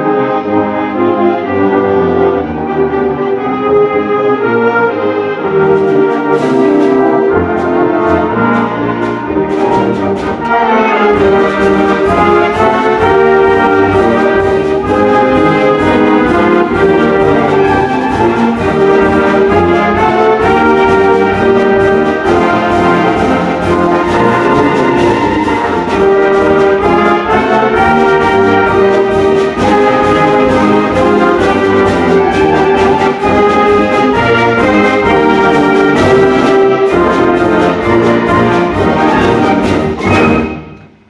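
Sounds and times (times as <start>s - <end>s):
concert band playing: 0.0s - 41.0s
percussion strikes: 5.6s - 41.0s.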